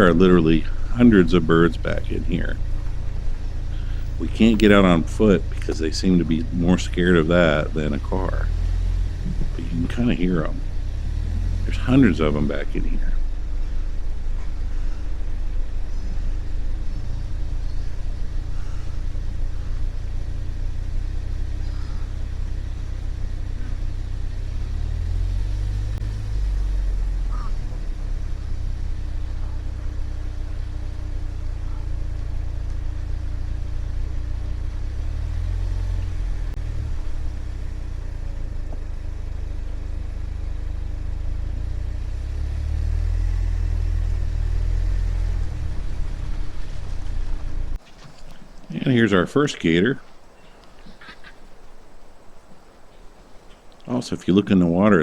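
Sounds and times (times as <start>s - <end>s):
faint bird calls: 0.0s - 54.4s
steady hum: 0.0s - 54.5s
car rumbling on dirt road: 0.0s - 55.0s.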